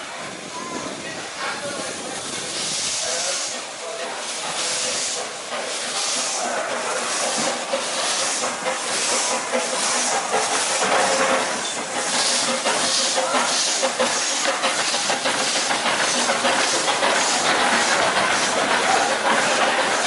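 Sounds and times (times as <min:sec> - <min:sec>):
steam locomotive hissing puffs: 0:00.4 - 0:20.0.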